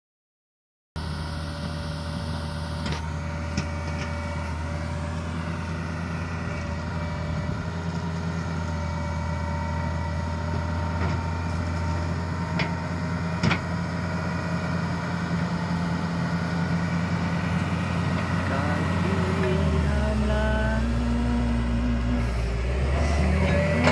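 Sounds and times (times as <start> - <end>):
excavator diesel engine running: 1.0 - 23.9.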